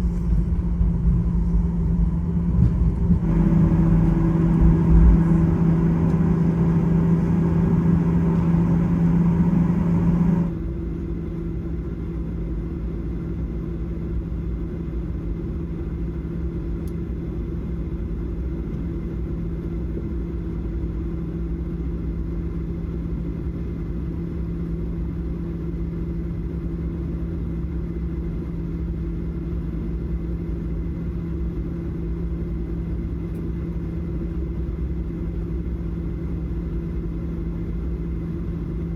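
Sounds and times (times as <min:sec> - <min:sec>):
jet cabin drone: 0:00.0 - 0:38.9.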